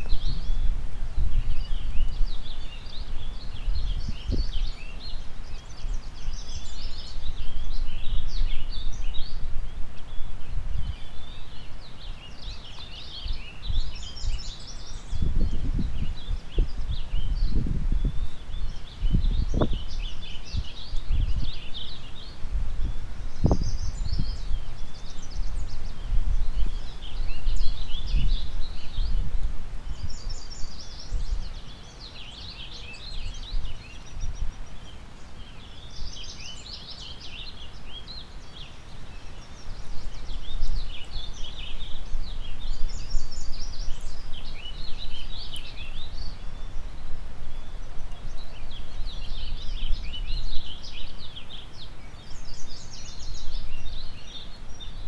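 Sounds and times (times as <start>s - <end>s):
songbirds singing and chirping: 0.0s - 55.0s
wind rumbling on microphone: 0.0s - 55.0s.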